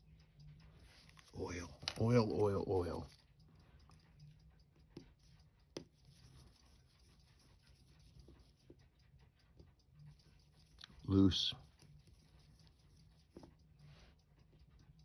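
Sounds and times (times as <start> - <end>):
faint clicks of small tools: 0.0 - 15.0.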